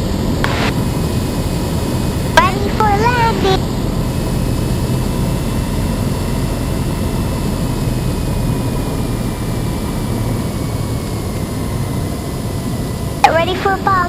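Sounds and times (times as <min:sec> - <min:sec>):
aircraft engine idling: 0:00.0 - 0:14.0
faint high whine: 0:00.0 - 0:14.0.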